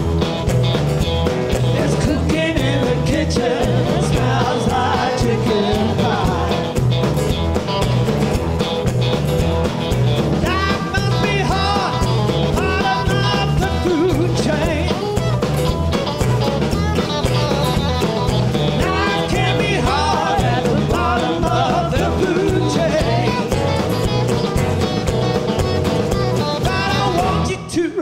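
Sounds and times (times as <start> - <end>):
live blues-rock band: 0.0 - 27.9.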